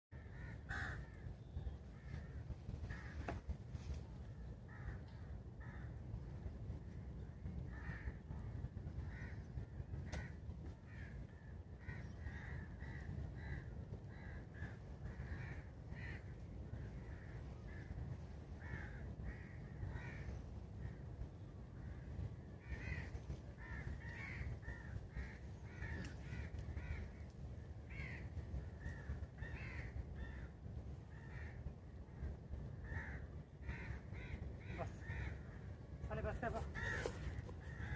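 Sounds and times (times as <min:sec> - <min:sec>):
steady low rumble: 0:00.2 - 0:37.9.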